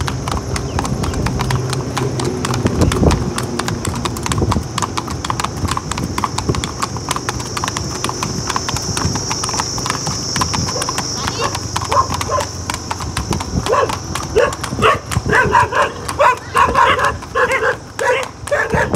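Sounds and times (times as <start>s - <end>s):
horse hooves on asphalt: 0.0s - 18.9s.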